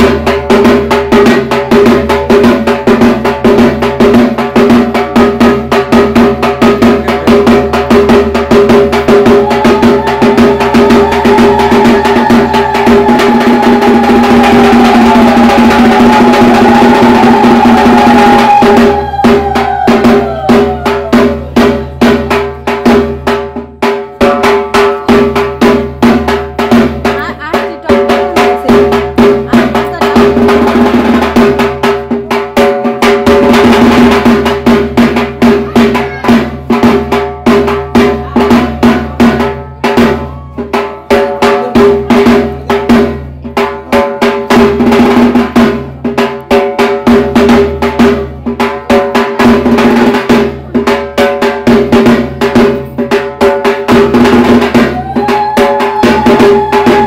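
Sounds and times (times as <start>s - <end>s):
fast continuous drumming: 0.0s - 57.0s.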